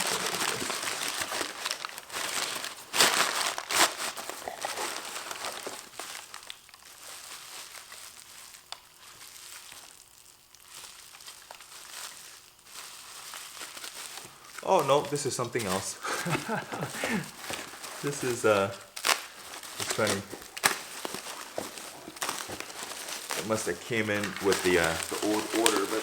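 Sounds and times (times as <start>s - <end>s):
cardboard crinkling and tearing: 0.0s - 26.0s
packing rustling: 0.0s - 26.0s
sharp ripping: 0.0s - 26.0s.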